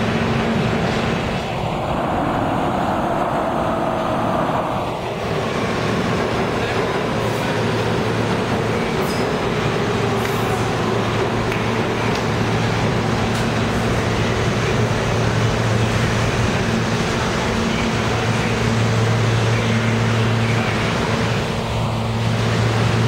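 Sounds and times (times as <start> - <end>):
train wheels rumbling on rails: 0.0 - 23.0
train whine: 0.0 - 23.0.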